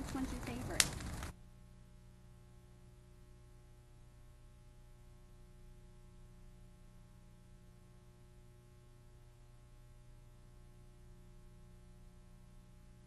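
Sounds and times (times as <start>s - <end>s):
faint electrical hum with hiss: 0.0s - 13.0s.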